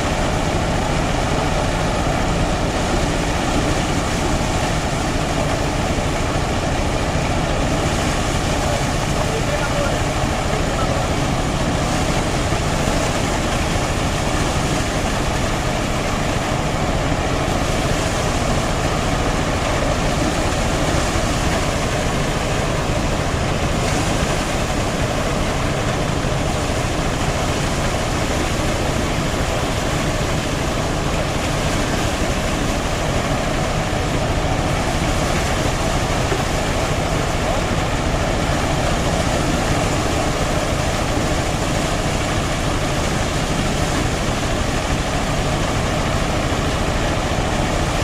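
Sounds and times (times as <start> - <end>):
threshing machine running: 0.0 - 48.0.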